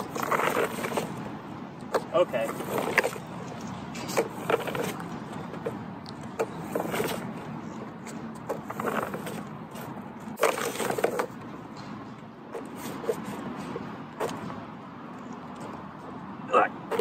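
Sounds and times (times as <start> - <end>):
plastic sweeper clattering on asphalt: 0.0 - 14.6.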